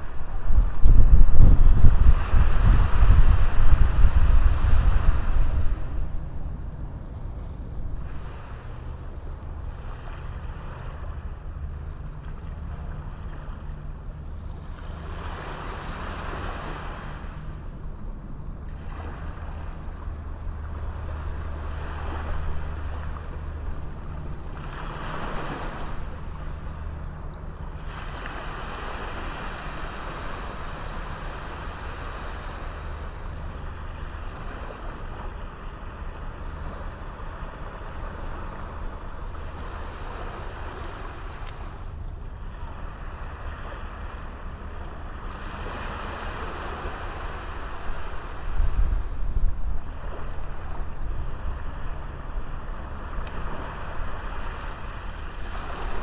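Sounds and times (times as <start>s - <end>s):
sea waves breaking on beach: 0.0s - 56.0s
steady low rumble: 0.0s - 56.0s.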